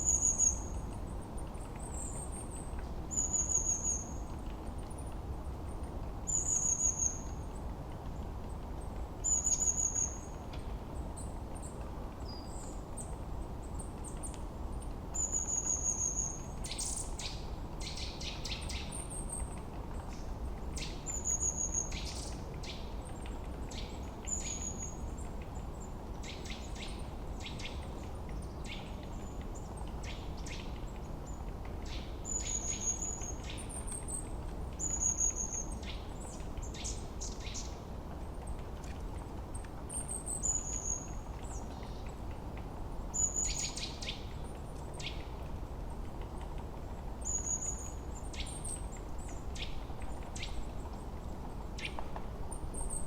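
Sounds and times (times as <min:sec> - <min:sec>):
songbirds singing: 0:00.0 - 0:42.3, 0:43.0 - 0:53.0.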